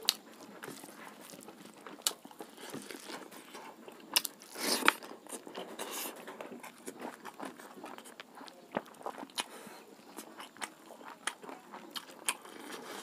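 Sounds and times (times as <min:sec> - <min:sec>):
person chewing and crunching food: 0:00.0 - 0:13.0.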